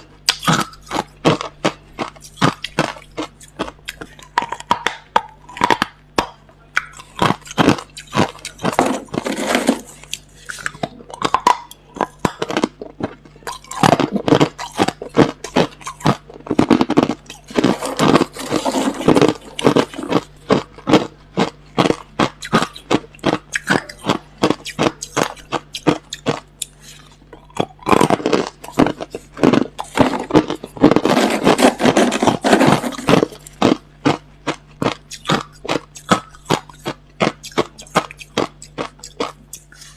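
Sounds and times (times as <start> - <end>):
crunching ice being chewed: 0.0 - 39.9
faint low hum: 0.0 - 39.9.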